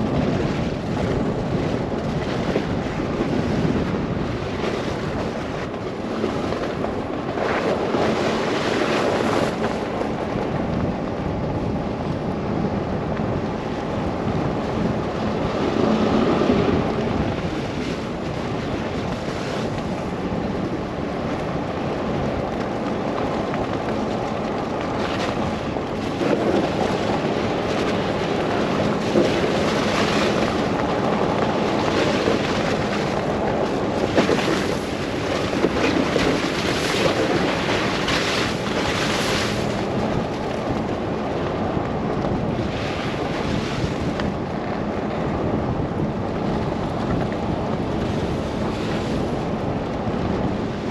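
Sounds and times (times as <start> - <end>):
car road and engine noise: 0.0 - 50.9
wind gusting on microphone: 0.0 - 50.9.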